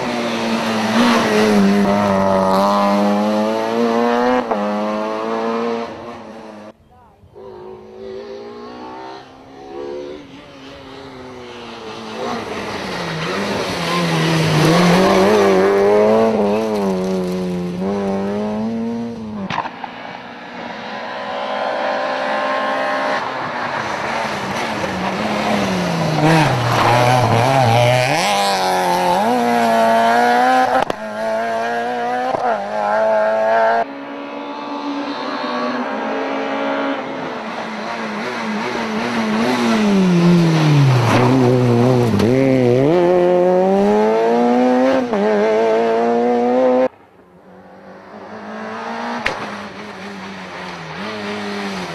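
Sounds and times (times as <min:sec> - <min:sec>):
rally car engine revving past: 0:00.0 - 0:06.7, 0:07.4 - 0:46.9, 0:47.6 - 0:51.9.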